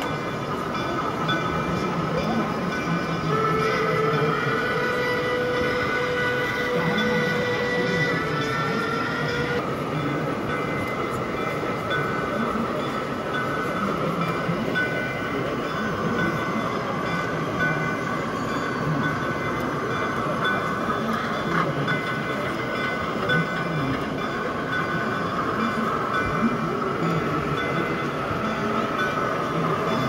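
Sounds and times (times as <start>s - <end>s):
background hubbub: 0.0s - 30.0s
model steam locomotive running: 0.0s - 30.0s.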